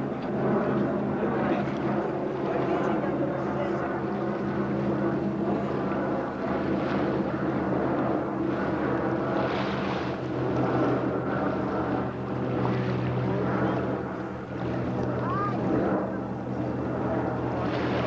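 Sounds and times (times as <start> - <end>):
wind and water rushing: 1.8 - 18.0.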